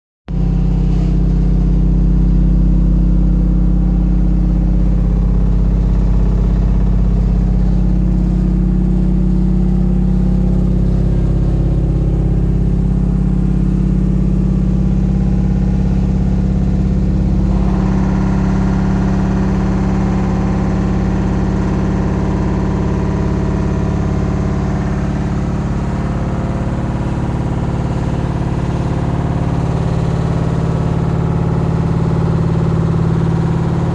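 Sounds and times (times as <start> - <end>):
washing machine spinning hum: 0.3 - 33.9.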